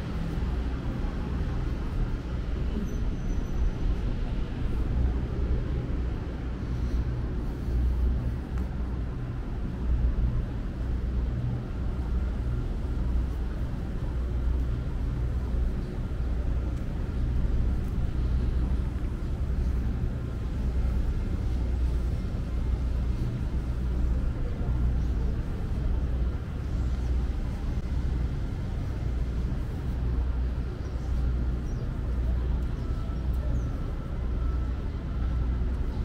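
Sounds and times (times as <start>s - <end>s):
low rumble of traffic: 0.0s - 36.0s.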